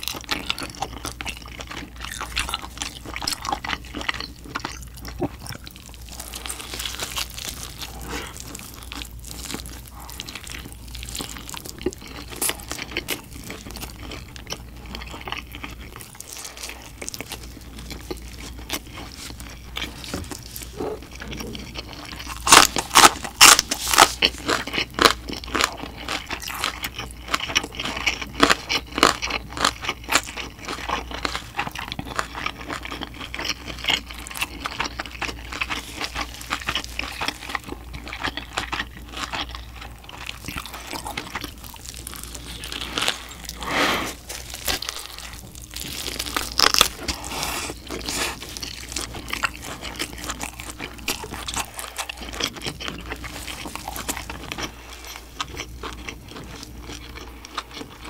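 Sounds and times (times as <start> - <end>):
crunching and chewing meat: 0.0 - 58.0.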